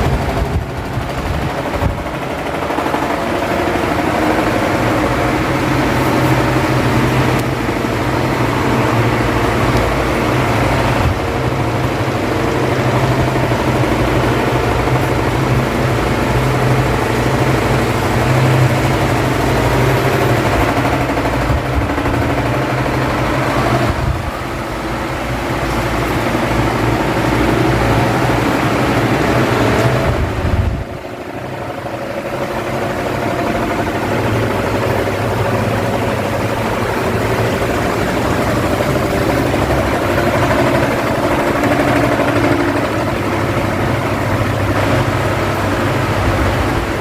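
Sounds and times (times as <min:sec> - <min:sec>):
electric fan running: 0:00.0 - 0:47.0.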